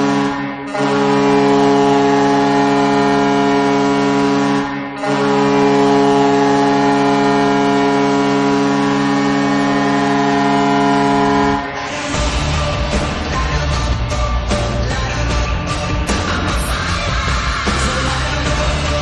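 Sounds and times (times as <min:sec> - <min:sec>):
goal horn blast: 0:00.0 - 0:19.0.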